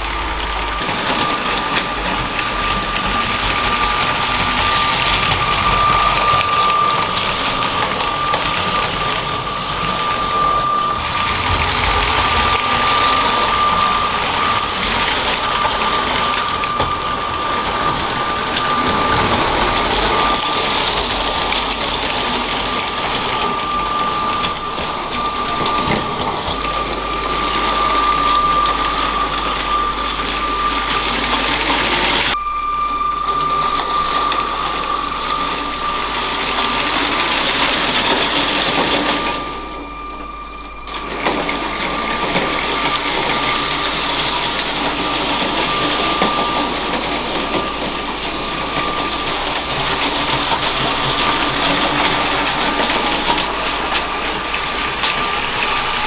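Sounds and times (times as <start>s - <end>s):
toy train rattling on plastic track: 0.0s - 32.4s, 33.2s - 56.0s
small electric motor whining: 0.0s - 56.0s.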